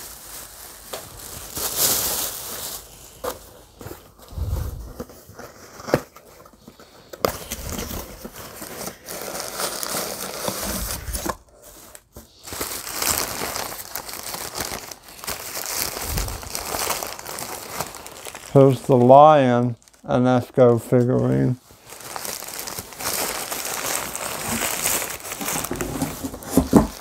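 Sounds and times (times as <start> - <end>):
paper crinkling and rustling: 0.0 - 27.0.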